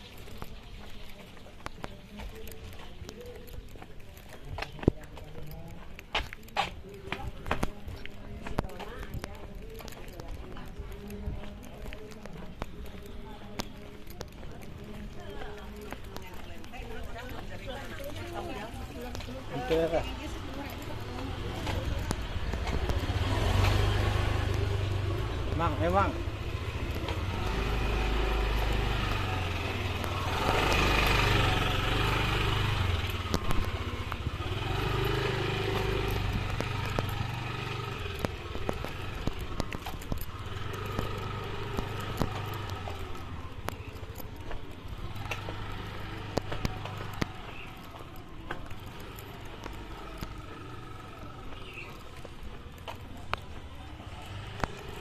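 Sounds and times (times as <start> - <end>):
motorcycle engine running: 6.4 - 55.0.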